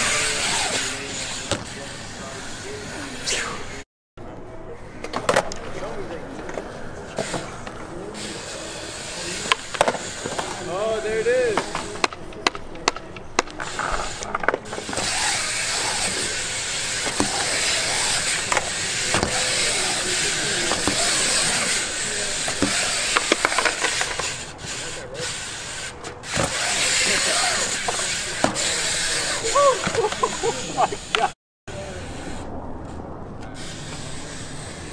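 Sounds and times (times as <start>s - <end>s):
bike tyres rolling on concrete: 0.0s - 3.3s, 5.0s - 34.9s.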